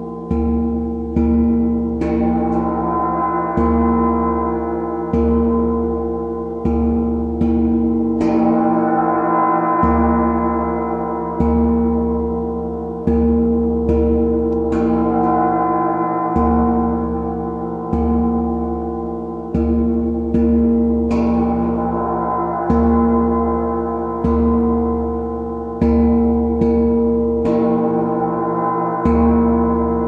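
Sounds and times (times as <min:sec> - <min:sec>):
deep struck tones ringing: 0:00.0 - 0:30.0.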